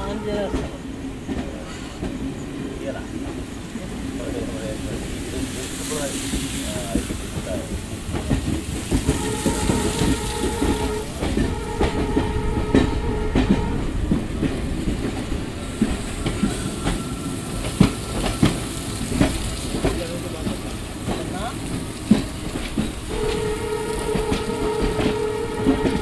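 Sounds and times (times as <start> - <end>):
train rumbling on rails: 0.0 - 26.0
wheels clacking over rail joints: 0.0 - 26.0.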